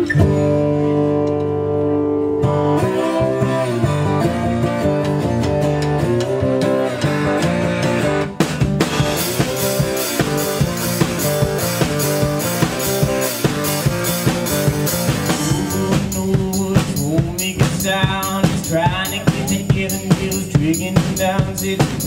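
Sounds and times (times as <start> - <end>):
strummed acoustic guitar: 0.0 - 22.0
drum kit playing: 2.5 - 22.0.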